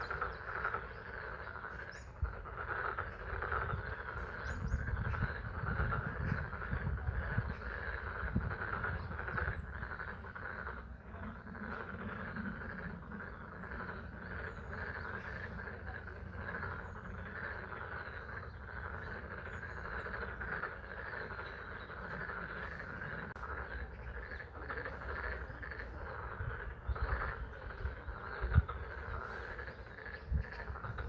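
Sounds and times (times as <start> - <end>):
frogs calling: 0.0 - 31.0.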